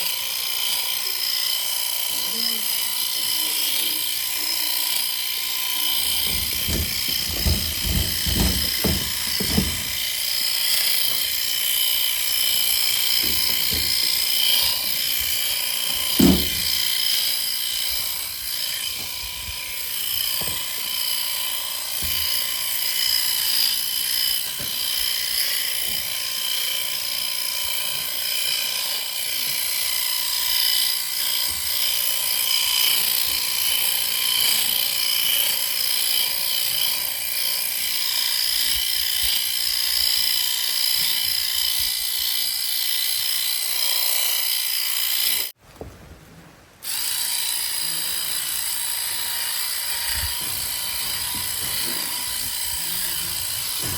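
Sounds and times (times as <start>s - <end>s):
electric shears whining: 0.0s - 45.6s, 46.8s - 53.9s.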